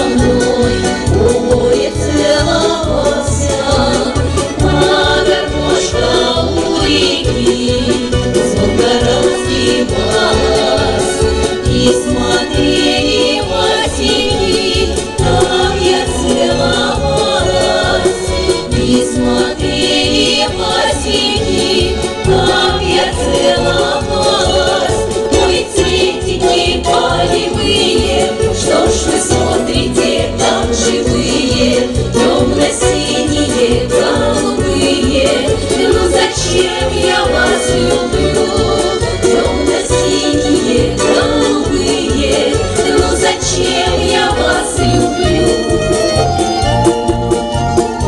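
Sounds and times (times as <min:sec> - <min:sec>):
folk ensemble singing in chorus: 0:00.0 - 0:48.0.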